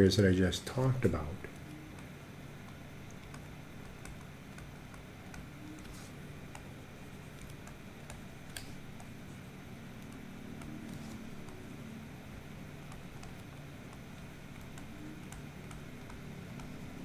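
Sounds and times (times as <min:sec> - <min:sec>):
low hum: 0:00.0 - 0:17.0
faint irregular clicks: 0:01.4 - 0:17.0.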